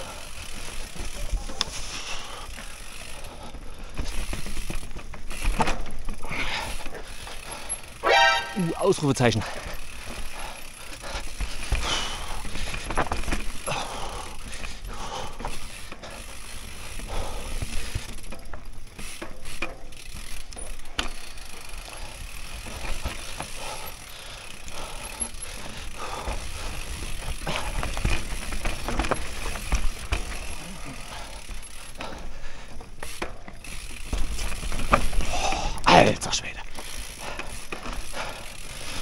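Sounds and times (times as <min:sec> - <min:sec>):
bike tyres rolling on dirt: 0:00.0 - 0:39.0
bike knocks and rattles: 0:02.6 - 0:08.4, 0:09.6 - 0:35.8.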